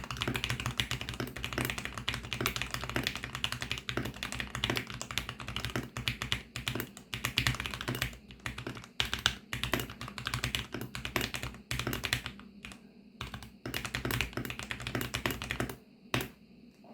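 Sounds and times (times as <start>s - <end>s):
fast typing on mechanical keyboard: 0.0s - 16.3s.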